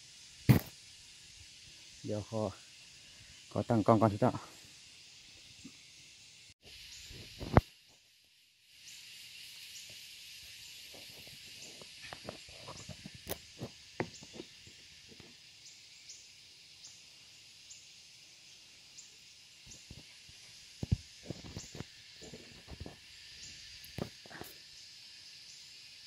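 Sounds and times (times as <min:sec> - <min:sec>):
forest insects droning: 0:00.0 - 0:26.0.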